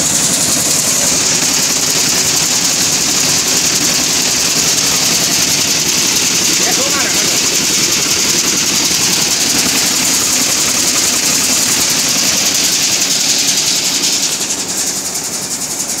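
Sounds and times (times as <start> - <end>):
nut chopping machine rattling: 0.0 - 16.0.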